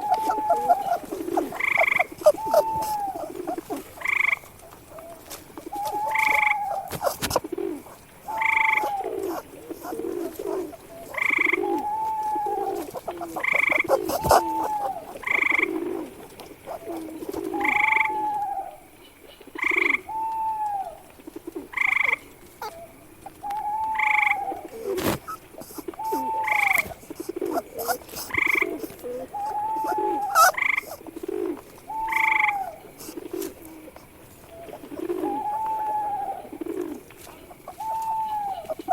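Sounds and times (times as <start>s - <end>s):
frog-like croaks: 0.0s - 5.1s, 5.7s - 18.6s, 19.6s - 20.1s, 21.3s - 22.8s, 23.4s - 38.9s.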